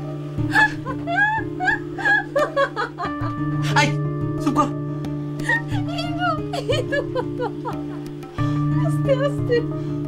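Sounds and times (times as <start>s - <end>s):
background music with low notes: 0.0s - 10.0s.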